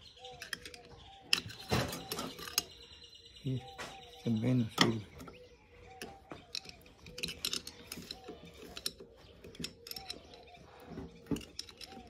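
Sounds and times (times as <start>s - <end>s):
metal parts clicking and knocking: 0.2s - 2.8s, 4.7s - 12.0s.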